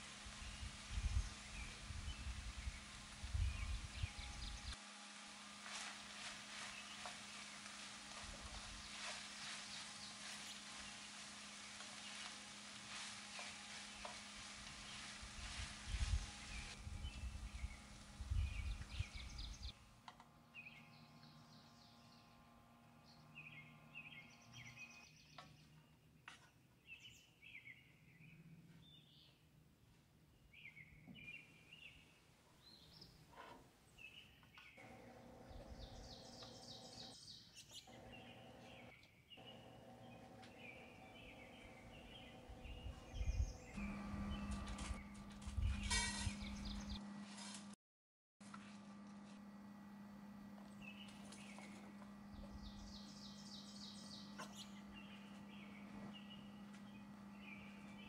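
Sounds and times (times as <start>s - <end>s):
faint birds chirping: 0.1s - 4.8s, 6.1s - 29.6s, 30.2s - 47.2s, 49.2s - 58.0s.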